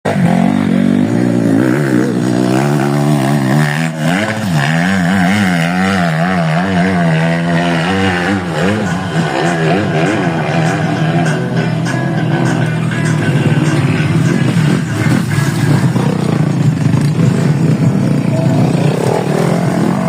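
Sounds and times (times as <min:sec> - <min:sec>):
motorcycle engine revving: 0:00.1 - 0:20.0.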